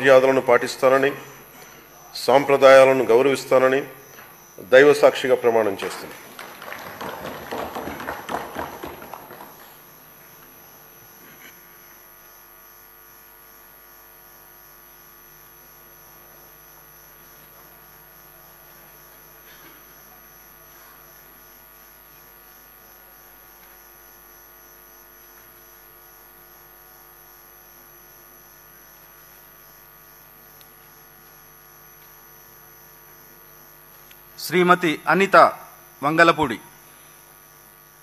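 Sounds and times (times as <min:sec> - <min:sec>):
electrical hum with high whine: 0:00.0 - 0:38.0.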